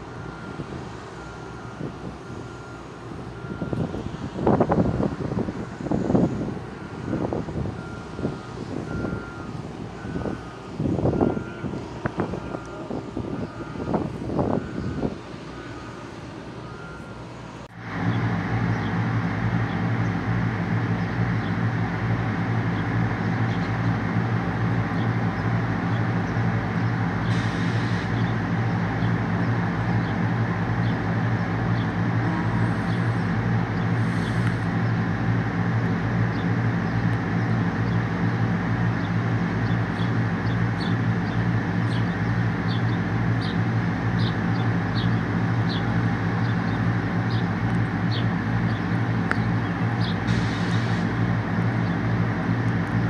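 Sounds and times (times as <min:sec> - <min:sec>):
large engine running: 0:00.0 - 0:53.0.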